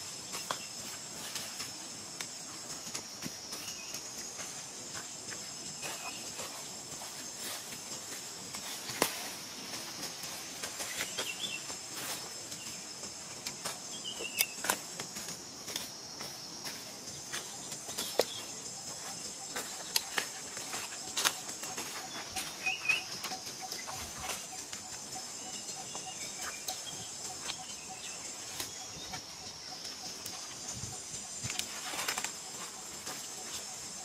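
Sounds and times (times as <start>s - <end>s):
high insect drone: 0.0s - 34.0s.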